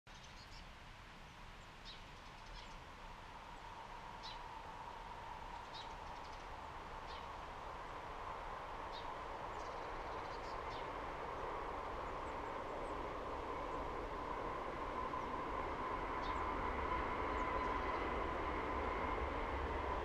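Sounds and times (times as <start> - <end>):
distant train hum: 1.5 - 20.0.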